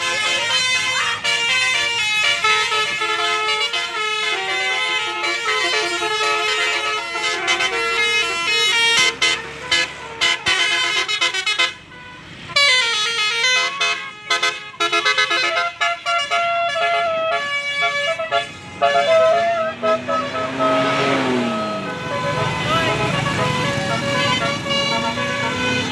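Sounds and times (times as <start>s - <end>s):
musical bus horns playing melodies: 0.0s - 25.9s.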